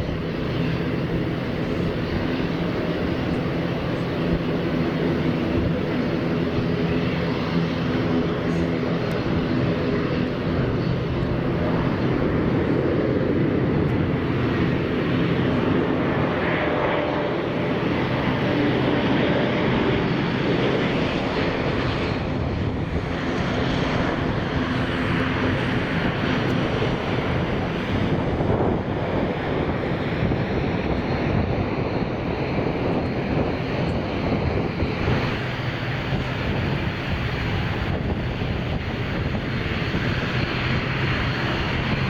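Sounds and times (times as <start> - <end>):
airliner engines roaring: 0.0 - 42.0.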